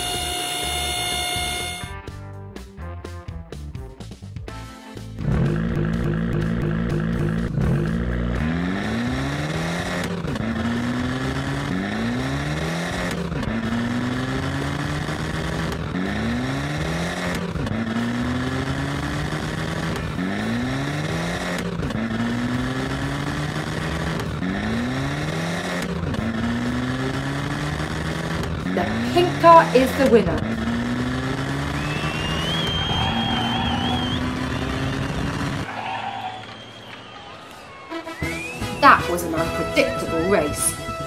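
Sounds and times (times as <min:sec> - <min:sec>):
race car engine revving: 0:05.2 - 0:41.0.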